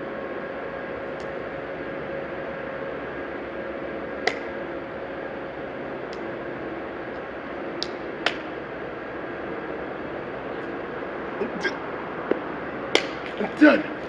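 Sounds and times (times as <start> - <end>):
faint hum: 0.0 - 14.0
street background noise: 0.0 - 14.0.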